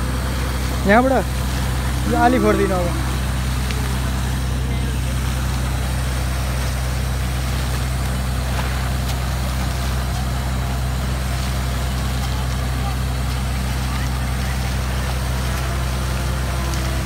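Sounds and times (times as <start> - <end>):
air compressor engine running: 0.0 - 17.0
air hissing and water splashing: 0.0 - 17.0.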